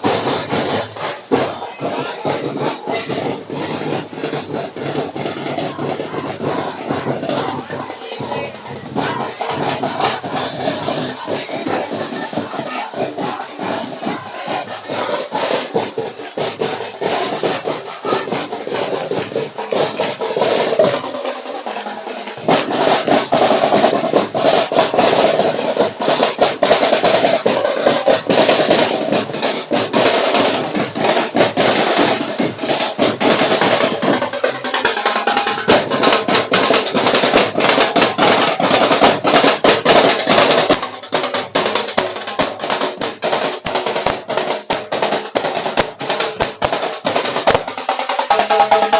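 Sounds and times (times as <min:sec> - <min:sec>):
percussion band drumming: 0:00.0 - 0:48.9
snare drums: 0:00.0 - 0:48.9.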